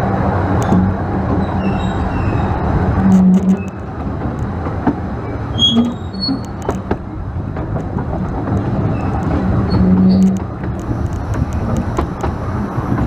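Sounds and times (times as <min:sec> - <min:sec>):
steam train rumble: 0:00.0 - 0:13.0
wind buffeting microphone: 0:00.0 - 0:13.0
wheels clicking: 0:01.6 - 0:13.0.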